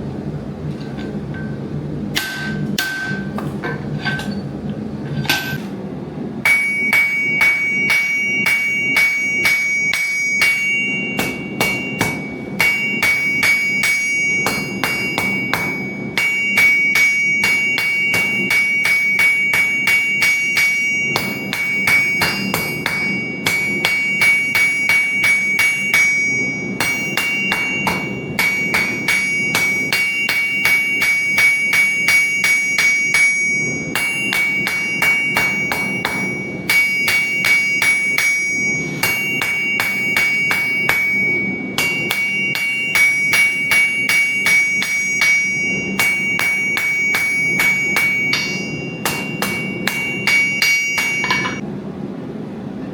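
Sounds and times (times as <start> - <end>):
hammer striking metal on anvil: 0.8 - 4.5, 5.1 - 5.7, 6.4 - 51.6.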